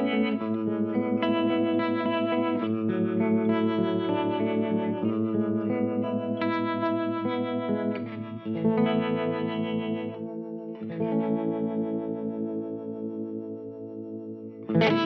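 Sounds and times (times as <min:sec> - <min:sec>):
electric guitar chords with tremolo: 0:00.0 - 0:15.0.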